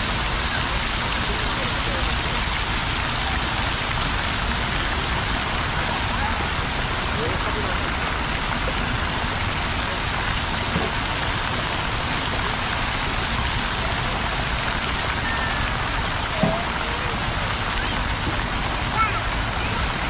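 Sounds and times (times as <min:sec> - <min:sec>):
fountain water splashing: 0:00.0 - 0:20.0.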